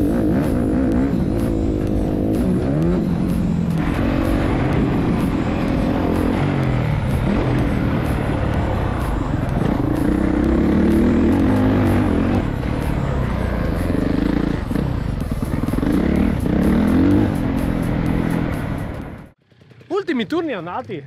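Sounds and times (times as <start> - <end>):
motocross bike engine revving: 0.0 - 19.9.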